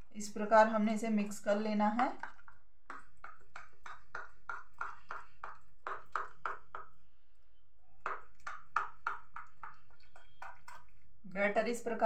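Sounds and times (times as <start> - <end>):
stirring batter in plastic bowl: 0.0 - 12.0.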